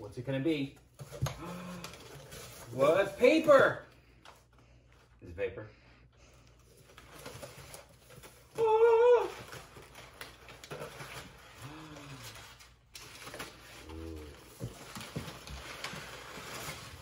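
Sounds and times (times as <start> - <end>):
packing paper rustling: 0.8 - 5.2, 6.6 - 17.0.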